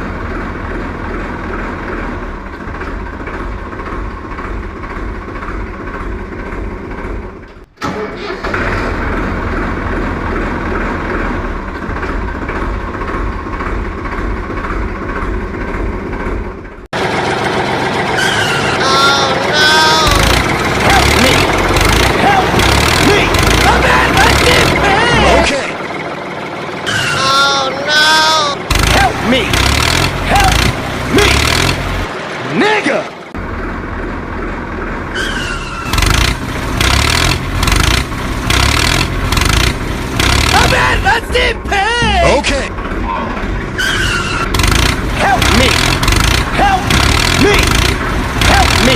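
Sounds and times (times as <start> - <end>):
steady engine-like sound: 0.0 - 48.9
tractor engine idling: 0.0 - 48.9.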